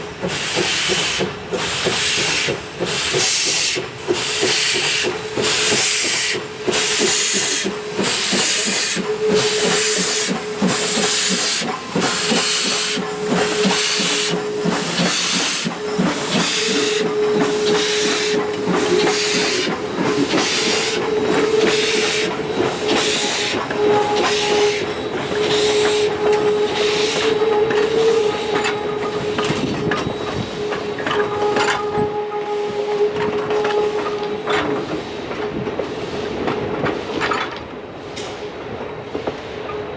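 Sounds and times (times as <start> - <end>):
steam locomotive exhaust chuffs: 0.1 - 37.2.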